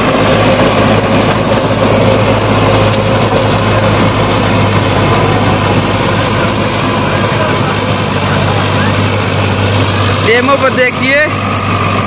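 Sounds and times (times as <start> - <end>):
tiller digging into dry soil: 0.0 - 12.0
tractor diesel engine under load: 0.0 - 12.0.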